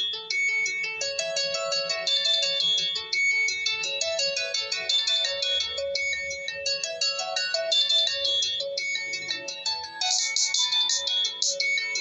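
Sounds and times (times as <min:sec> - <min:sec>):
high-pitched ringtone melody: 0:00.0 - 0:12.0.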